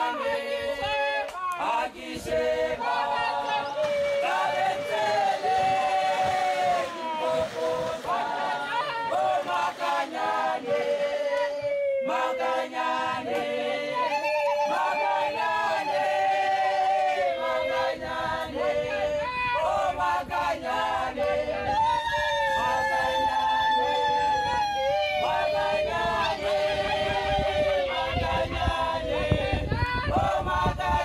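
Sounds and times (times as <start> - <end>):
choral singing: 0.0 - 31.0.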